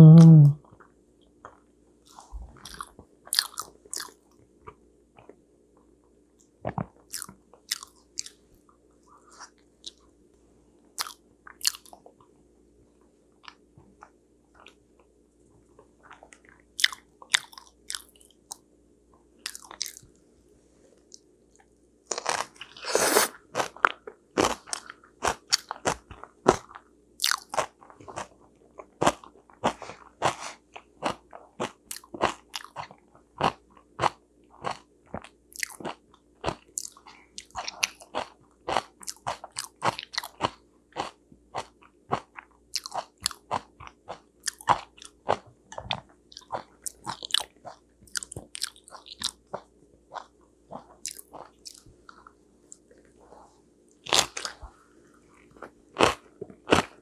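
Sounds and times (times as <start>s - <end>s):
crunchy chewing: 1.4s - 5.4s, 6.7s - 8.4s, 11.0s - 12.2s, 16.0s - 18.6s, 19.4s - 20.1s, 21.0s - 57.0s.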